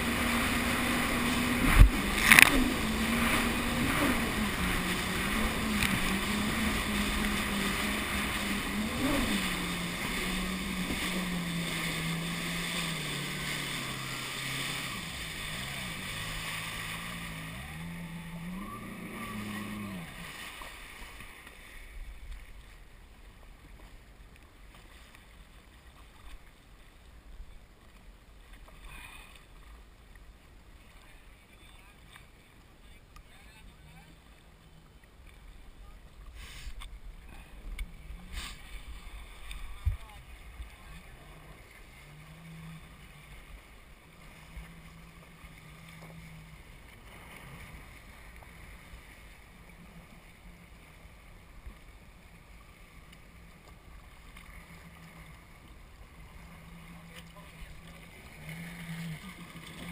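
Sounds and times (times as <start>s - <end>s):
jet ski engine revving: 0.0s - 22.0s, 30.8s - 59.9s
faint water and wind noise: 0.0s - 59.9s.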